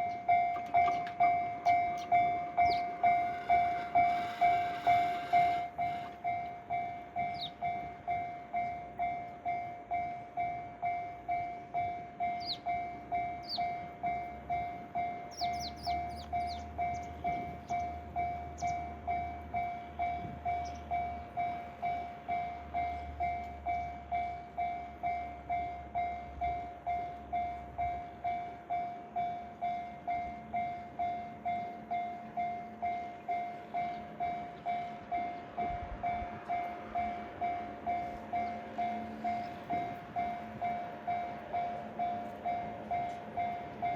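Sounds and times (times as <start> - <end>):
level-crossing bell ringing: 0.0 - 43.9.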